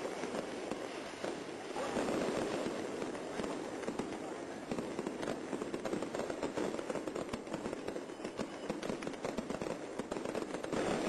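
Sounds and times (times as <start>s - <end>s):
firecrackers crackling and popping: 0.0s - 11.0s.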